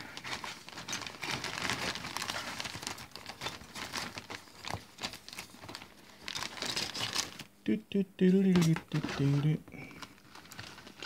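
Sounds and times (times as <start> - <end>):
plastic bag crinkling: 0.0 - 7.6, 8.4 - 11.0.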